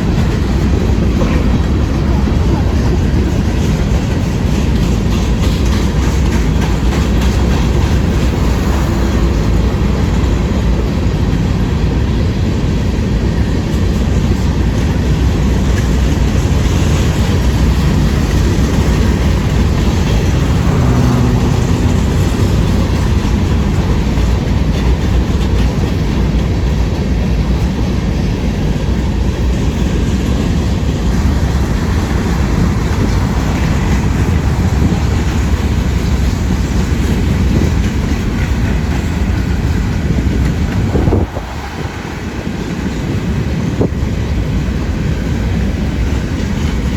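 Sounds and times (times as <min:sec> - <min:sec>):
train cars rumbling: 0:00.0 - 0:46.9
train wheels clacking over rail joints: 0:00.0 - 0:46.9.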